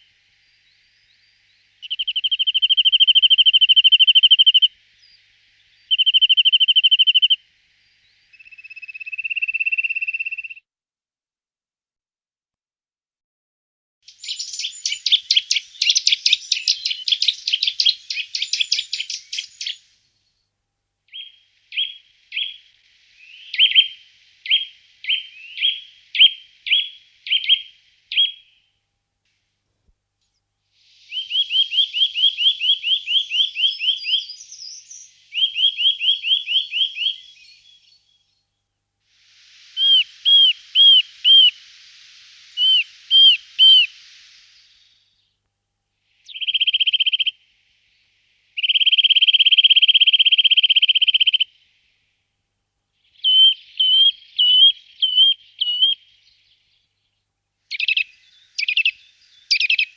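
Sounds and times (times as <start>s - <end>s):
small songbirds singing: 0.0s - 10.6s, 14.0s - 20.5s, 21.1s - 28.7s, 30.2s - 45.4s, 46.0s - 52.1s, 52.9s - 59.9s.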